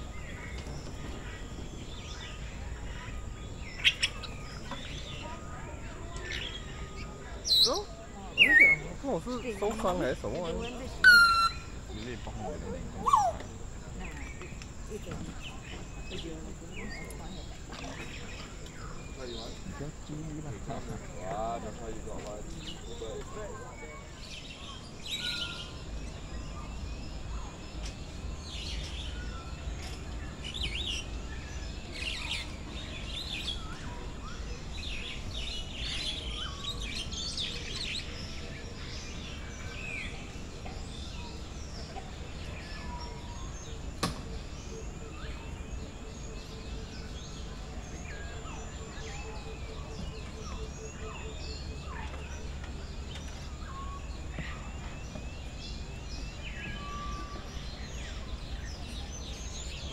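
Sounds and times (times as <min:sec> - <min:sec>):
birds chirping and calling: 0:00.0 - 0:59.9.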